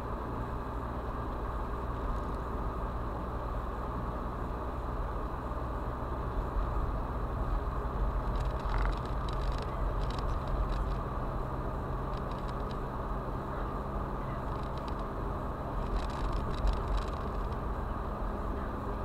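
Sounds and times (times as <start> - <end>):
car tyre and engine rumble: 0.0 - 19.0.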